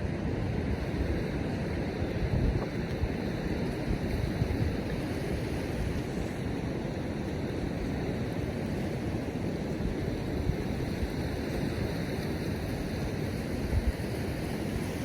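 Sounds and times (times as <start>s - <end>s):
ocean surf washing on shore: 0.0s - 15.0s
wind rumbling on microphone: 0.0s - 15.0s.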